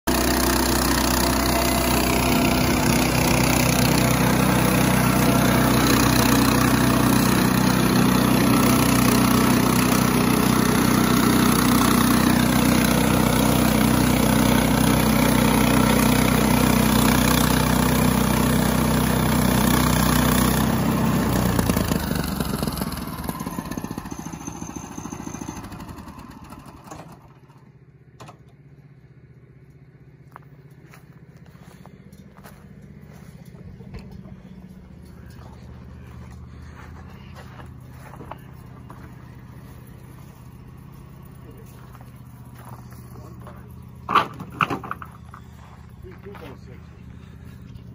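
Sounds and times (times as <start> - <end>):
sawmill gasoline engine running: 0.0 - 47.9.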